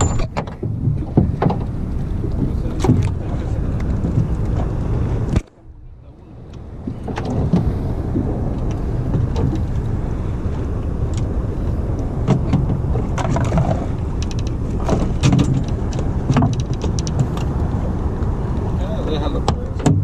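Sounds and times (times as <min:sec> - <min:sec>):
boat motor running: 0:00.0 - 0:20.0.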